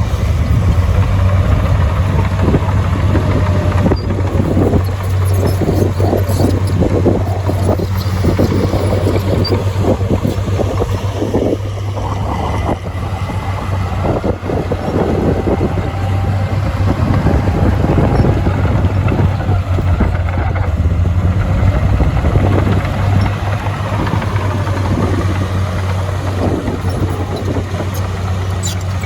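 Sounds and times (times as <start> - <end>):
heavy diesel engine hum: 0.0 - 29.0
rough mechanical clatter: 0.0 - 29.0.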